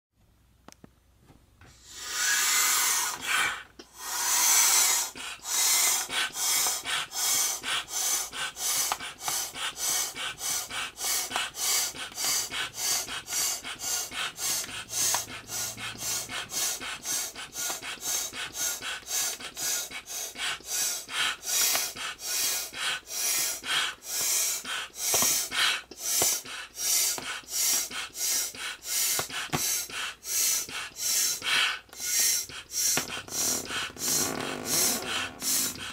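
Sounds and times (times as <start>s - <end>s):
air pump hissing puffs: 1.7s - 35.9s.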